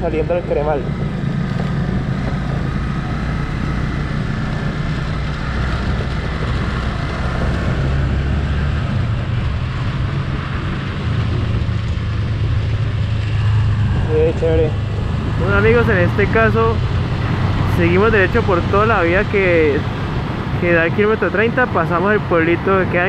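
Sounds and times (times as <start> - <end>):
motorcycle engine: 0.0 - 23.0
road noise: 0.0 - 23.0.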